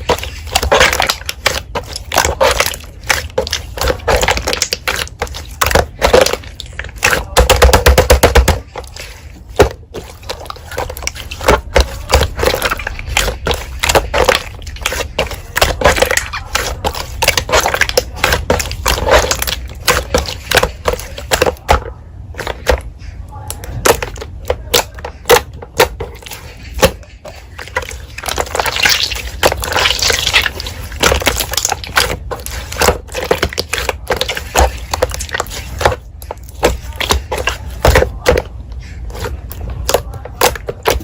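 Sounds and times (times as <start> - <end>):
slime squished by hand: 0.0 - 41.0.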